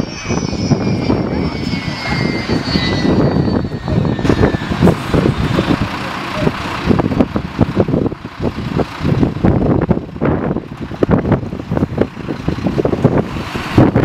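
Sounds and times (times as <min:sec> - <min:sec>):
aircraft engines running: 0:00.0 - 0:14.0
high turbine whine: 0:00.0 - 0:14.0
wind buffeting microphone: 0:00.0 - 0:14.0.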